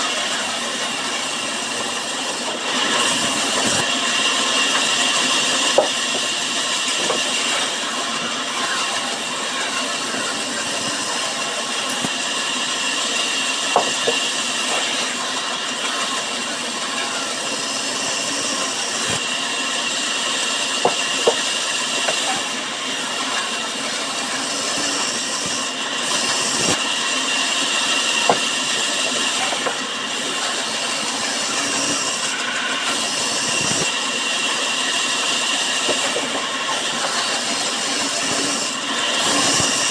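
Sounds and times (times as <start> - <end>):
saw cutting wood with high whine: 0.0 - 39.9.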